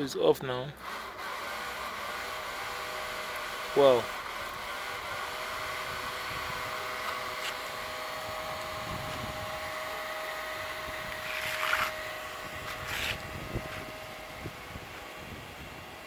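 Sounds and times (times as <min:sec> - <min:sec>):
electric blower motor whine: 0:00.8 - 0:16.0.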